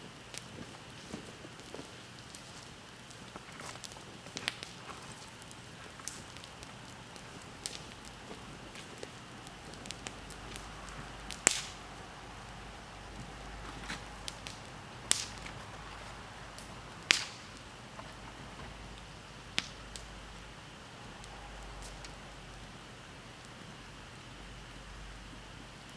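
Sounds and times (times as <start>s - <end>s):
bonfire crackling: 0.0s - 25.9s
burning wood popping: 0.0s - 25.9s.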